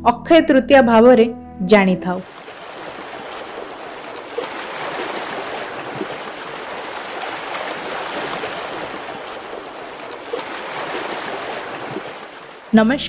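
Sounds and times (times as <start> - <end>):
rushing water: 2.2 - 12.9.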